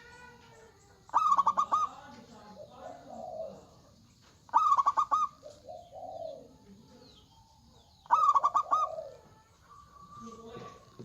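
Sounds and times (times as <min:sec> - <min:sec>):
doves cooing: 0:00.0 - 0:11.0.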